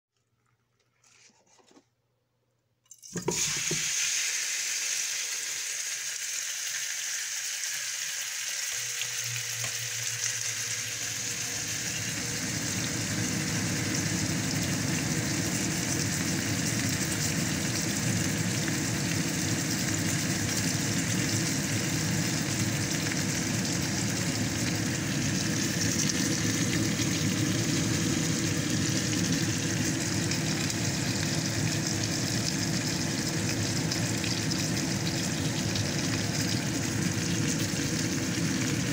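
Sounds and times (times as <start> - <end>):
steak sizzling in a frying pan: 3.4 - 10.9, 11.6 - 38.9.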